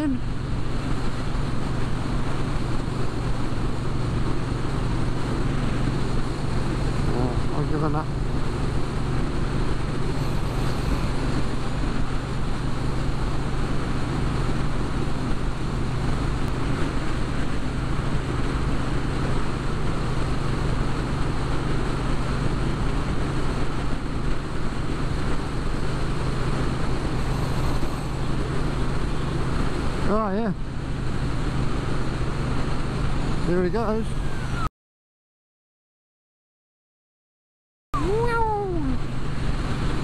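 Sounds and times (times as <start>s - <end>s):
motorcycle engine cruising: 0.0s - 34.7s
wind and road noise: 0.0s - 34.7s, 38.0s - 40.0s.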